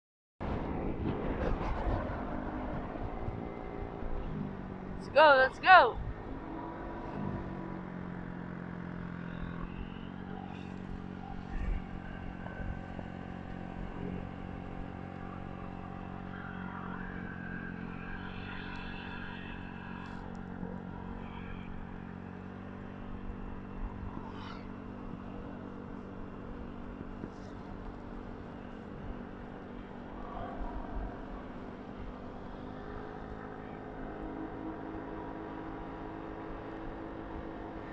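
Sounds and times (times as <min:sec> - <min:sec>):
motorcycle engine running: 0:00.4 - 0:37.9.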